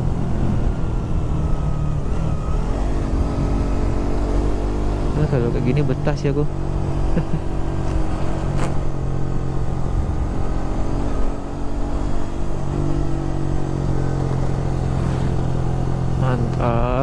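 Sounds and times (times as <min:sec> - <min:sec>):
road rumble: 0:00.0 - 0:17.0
wind: 0:00.0 - 0:17.0.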